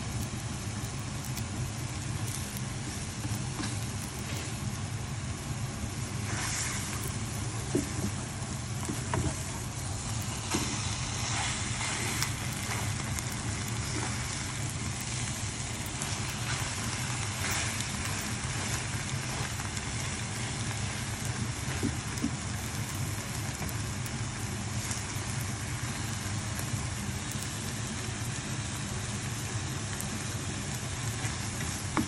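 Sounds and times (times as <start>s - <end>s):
food sizzling in a pan: 0.0s - 32.0s
steady low hum: 0.0s - 32.0s.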